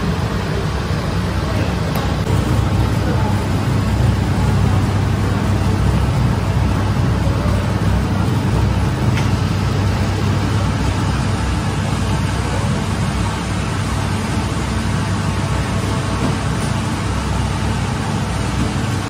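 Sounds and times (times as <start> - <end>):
dough divider machine humming: 0.0 - 19.0.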